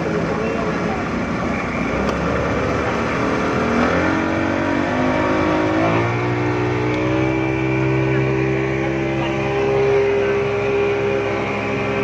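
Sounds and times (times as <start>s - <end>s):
speedboat engine: 0.0s - 12.0s.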